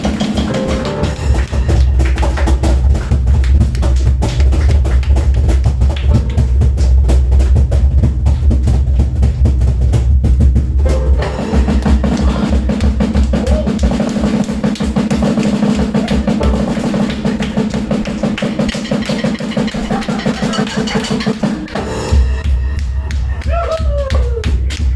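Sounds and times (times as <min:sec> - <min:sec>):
fast drum roll: 0:00.0 - 0:24.9
heavy bass drum: 0:00.0 - 0:24.9.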